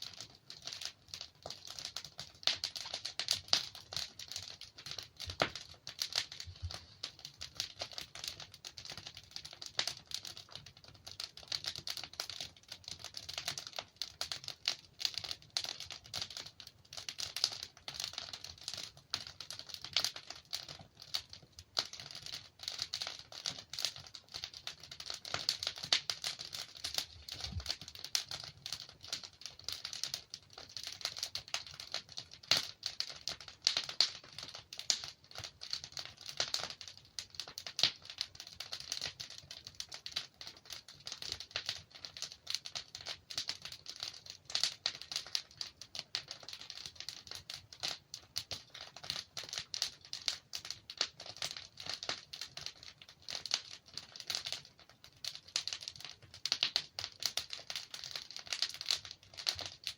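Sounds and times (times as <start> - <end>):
logs crackling in a fireplace: 0.0 - 59.9.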